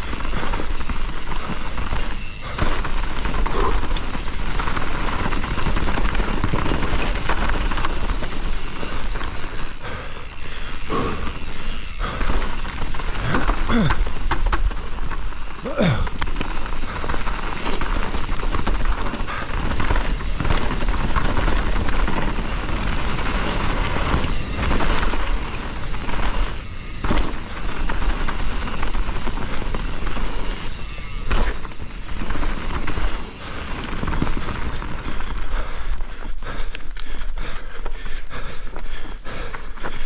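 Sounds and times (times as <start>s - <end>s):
bike knocks and rattles: 0.0s - 35.5s
bike tyre noise on dirt: 0.0s - 40.0s.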